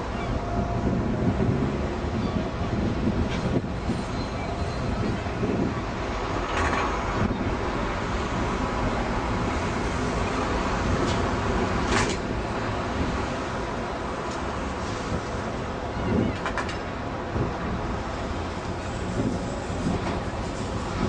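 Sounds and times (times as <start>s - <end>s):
vehicles rumbling: 0.0s - 21.0s.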